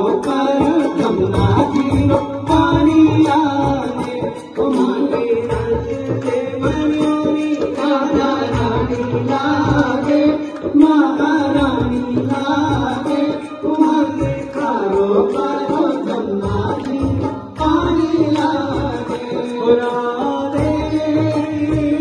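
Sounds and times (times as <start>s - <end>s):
devotional music with steady beat: 0.0s - 22.0s
man singing into a microphone: 0.0s - 22.0s.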